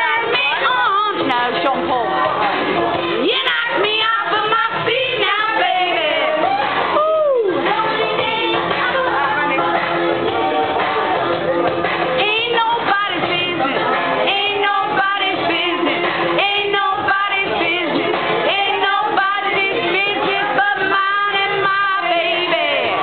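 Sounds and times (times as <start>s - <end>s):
woman singing: 0.0s - 2.3s, 3.2s - 6.8s, 7.5s - 9.9s, 12.2s - 23.0s
loud music: 0.0s - 23.0s.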